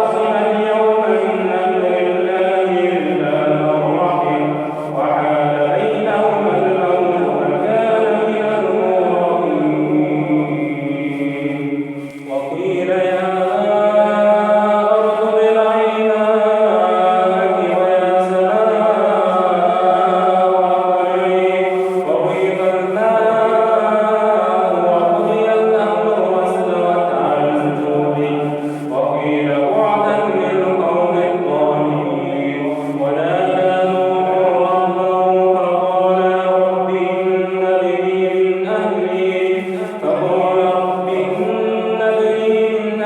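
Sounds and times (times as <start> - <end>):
man chanting melodically: 0.0 - 43.0.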